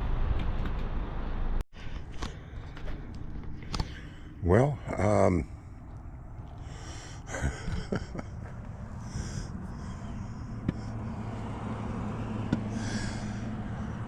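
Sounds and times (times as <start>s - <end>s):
steady low hum: 1.1s - 14.0s.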